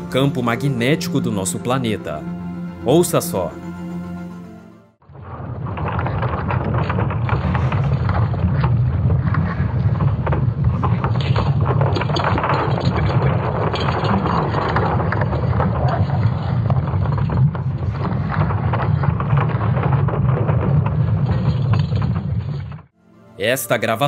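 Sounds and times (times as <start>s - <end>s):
crackling: 0.0s - 23.9s.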